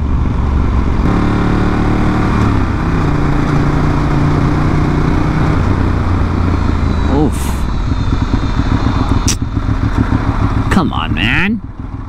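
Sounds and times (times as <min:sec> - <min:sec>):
low wind rumble: 0:00.0 - 0:12.0
motorcycle engine running: 0:00.0 - 0:12.0.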